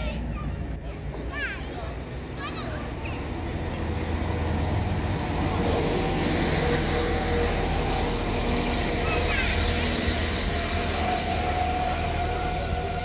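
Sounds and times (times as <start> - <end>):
diesel train engine rumbling: 0.0 - 13.0.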